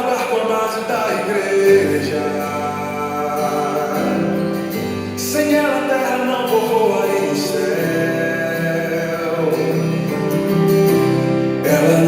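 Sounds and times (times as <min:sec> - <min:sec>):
gospel song chords: 0:00.0 - 0:12.0
man singing: 0:00.0 - 0:12.0.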